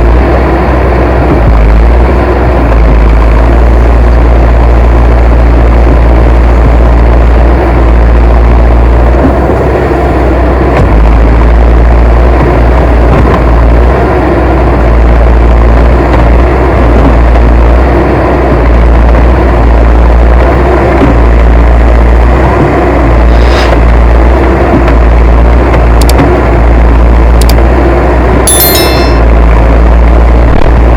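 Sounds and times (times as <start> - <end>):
heavy machine engine droning: 0.0 - 30.9.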